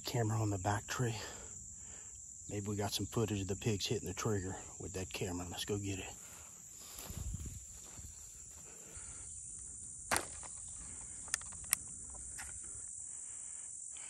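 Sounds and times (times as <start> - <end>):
high-pitched insect drone: 0.6 - 14.0.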